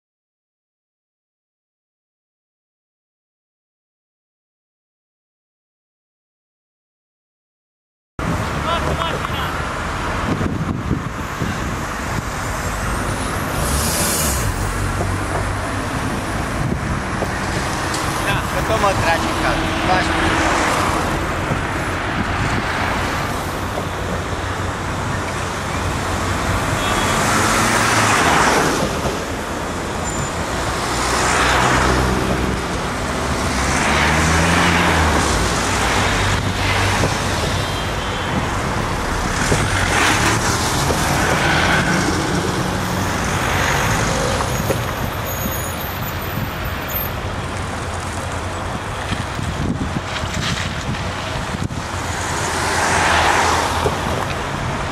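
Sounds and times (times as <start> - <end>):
cars passing: 8.2 - 54.9.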